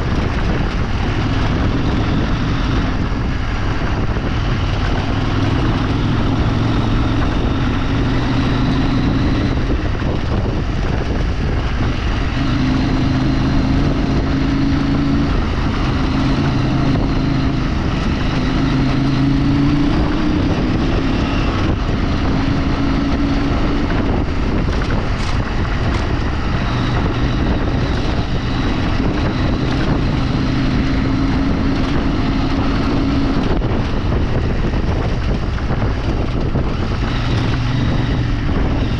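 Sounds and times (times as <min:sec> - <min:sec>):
off-road vehicle engine: 0:00.0 - 0:38.9
wind noise on microphone: 0:00.0 - 0:38.9.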